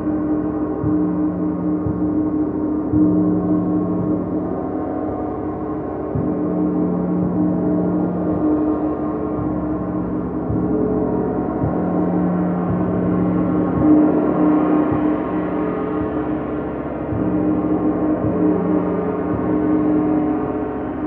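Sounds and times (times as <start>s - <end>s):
gong ringing: 0.0s - 21.0s.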